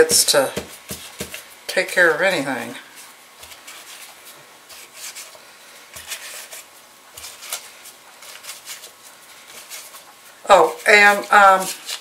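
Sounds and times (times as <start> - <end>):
butter wrapper brushing dough: 0.1 - 12.0.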